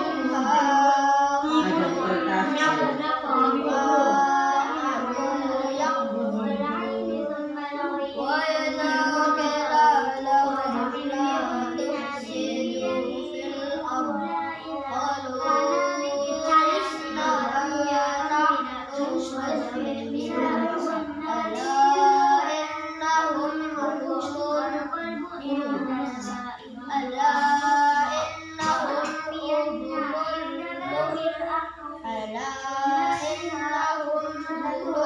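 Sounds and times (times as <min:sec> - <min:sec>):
children chanting recitation: 0:00.0 - 0:35.0.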